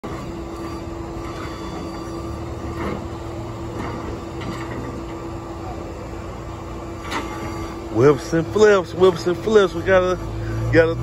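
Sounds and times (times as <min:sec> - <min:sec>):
hydraulic whine: 0:00.0 - 0:11.0
truck engine rumble: 0:00.0 - 0:11.0.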